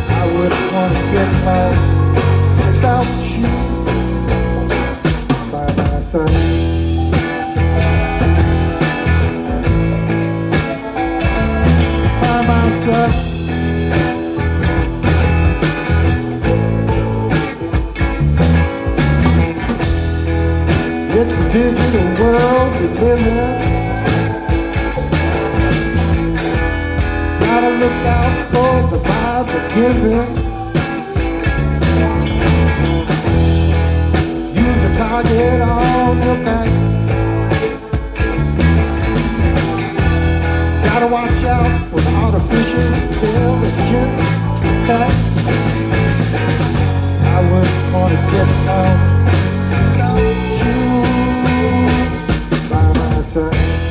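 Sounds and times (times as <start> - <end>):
electric guitar lead lines: 0.0 - 53.9
rock band jamming: 0.0 - 53.9.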